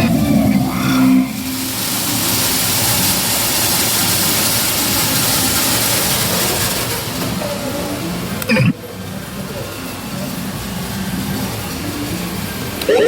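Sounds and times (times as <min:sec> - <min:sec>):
loud steady rushing noise: 0:00.0 - 0:13.0.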